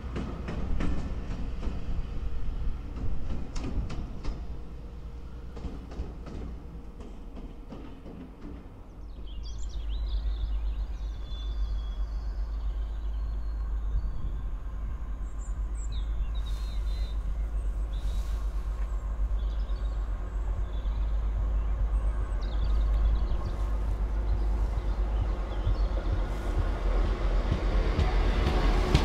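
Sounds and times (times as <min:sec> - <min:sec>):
wind rumble on microphone: 0:00.0 - 0:07.2, 0:08.4 - 0:29.0
distant train approaching: 0:00.0 - 0:29.0.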